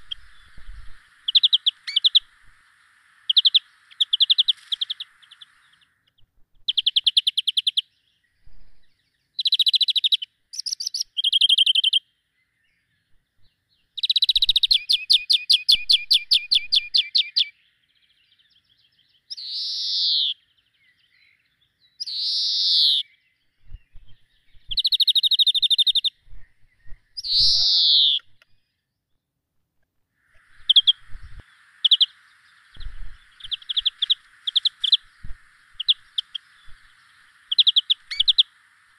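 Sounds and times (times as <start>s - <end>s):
birds chirping: 0.0s - 29.3s, 30.2s - 38.9s.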